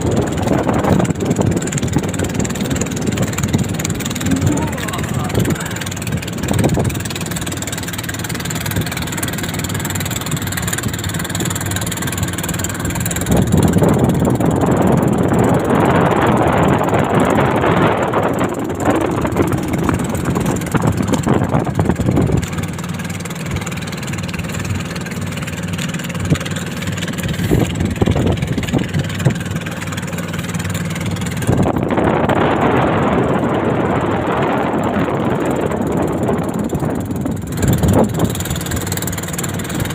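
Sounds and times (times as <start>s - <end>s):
motor engine running: 0.0s - 39.9s.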